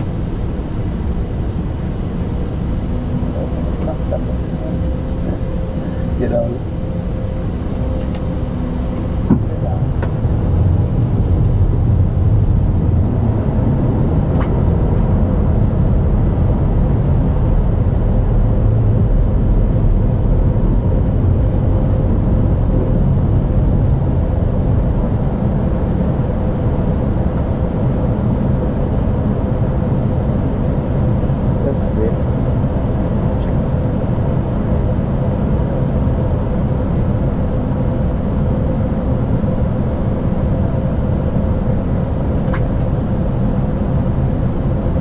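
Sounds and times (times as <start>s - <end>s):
airflow and engine rumble: 0.0s - 45.0s.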